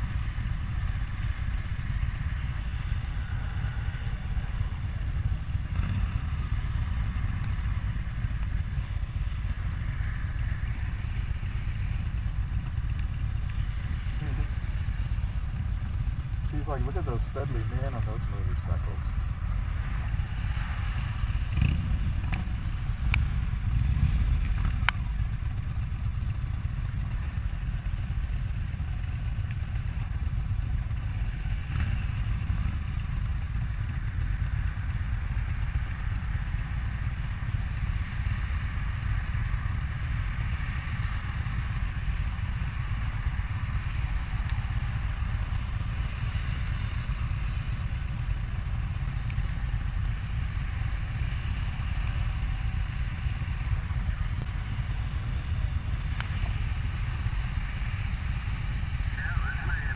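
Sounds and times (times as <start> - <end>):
motorcycle engines idling: 0.0 - 59.9.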